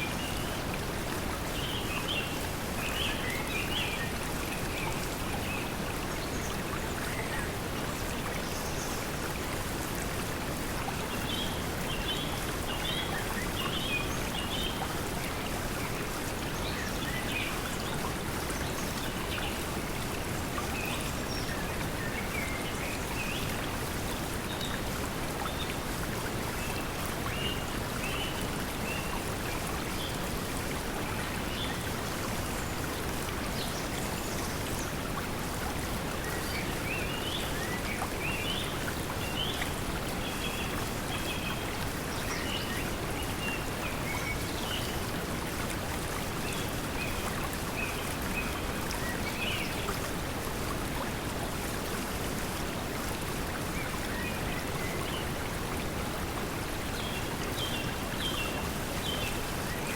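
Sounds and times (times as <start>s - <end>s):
flowing stream: 0.0s - 59.9s.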